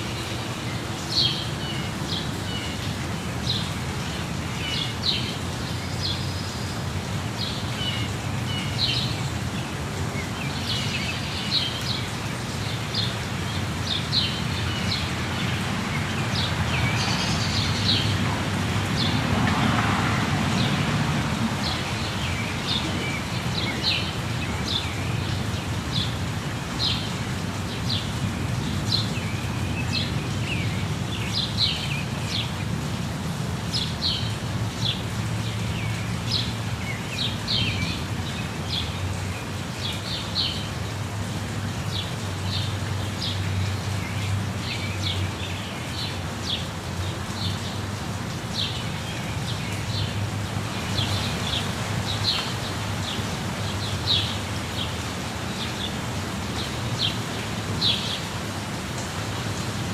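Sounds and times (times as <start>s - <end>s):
rush of falling water: 0.0s - 59.9s.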